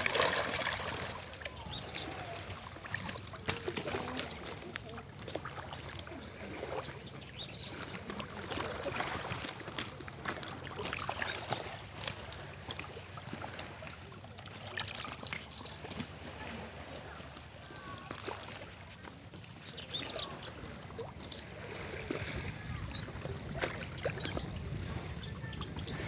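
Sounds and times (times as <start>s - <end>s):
small water splashes: 0.0s - 26.0s
small waves lapping on stones: 0.0s - 26.0s.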